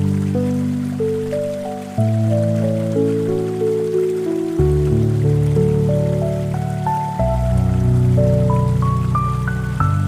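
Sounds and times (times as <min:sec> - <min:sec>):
soft ambient music: 0:00.0 - 0:10.0
trickling water fountain: 0:00.0 - 0:10.0.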